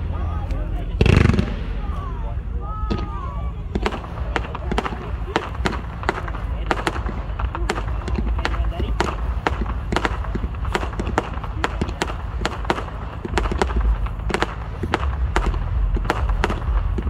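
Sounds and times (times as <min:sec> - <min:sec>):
firework bangs and pops: 0:00.0 - 0:02.0, 0:02.9 - 0:17.0
low rumble: 0:00.0 - 0:17.0.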